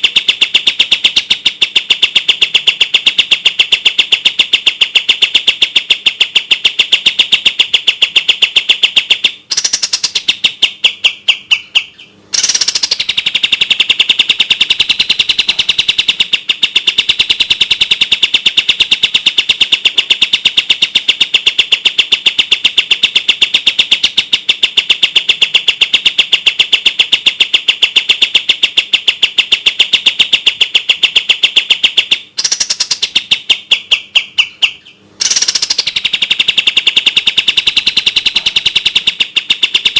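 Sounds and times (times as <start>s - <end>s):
bird rattling song: 0.0s - 39.9s.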